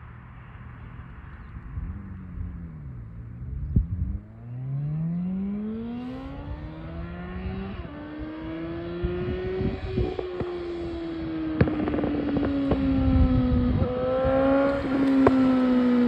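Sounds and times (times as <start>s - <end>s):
motorcycle accelerating hard: 0.8s - 16.0s.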